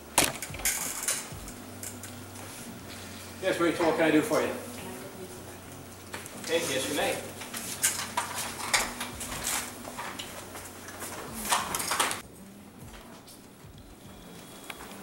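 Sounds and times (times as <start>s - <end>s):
people moving at tables: 0.0s - 15.0s.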